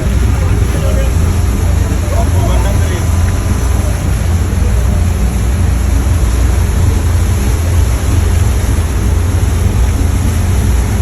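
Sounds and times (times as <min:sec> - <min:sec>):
boat engine rumbling: 0:00.0 - 0:11.0
wind and water hiss: 0:00.0 - 0:11.0.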